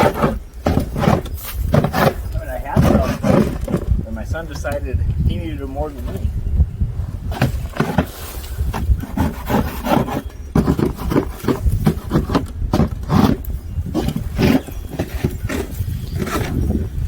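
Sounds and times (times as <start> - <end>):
crunching and scraping in snow: 0.0 - 4.0, 7.0 - 17.0
wind rumble on microphone: 0.0 - 17.0.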